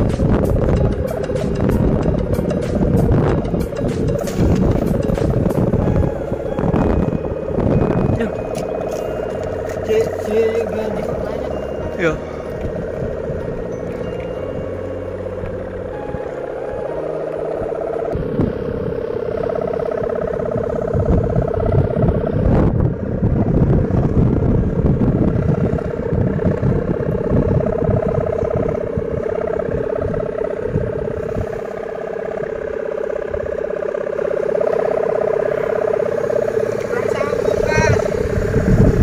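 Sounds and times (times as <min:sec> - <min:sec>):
kite bow humming: 0:00.0 - 0:39.0
wind rumbling on microphone: 0:00.0 - 0:39.0.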